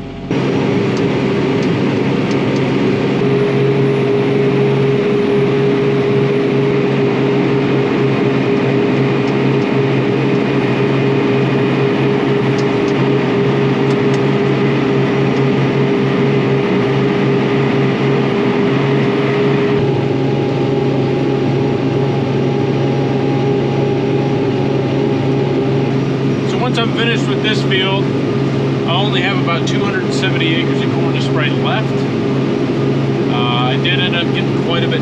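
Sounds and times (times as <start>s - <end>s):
crop sprayer engine drone: 0.0s - 35.0s
high steady hum: 0.0s - 35.0s.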